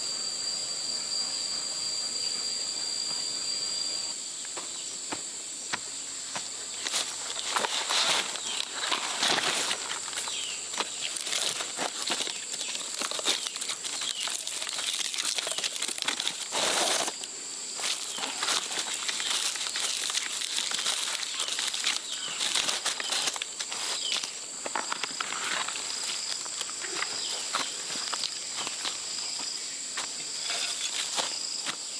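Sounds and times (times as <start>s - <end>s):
insects droning: 0.0s - 31.9s
leaves and twigs rustling: 6.3s - 31.9s.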